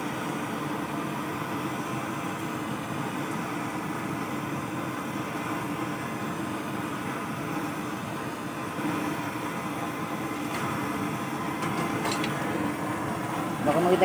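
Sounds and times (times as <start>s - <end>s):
gas burner flame hissing: 0.0s - 14.0s.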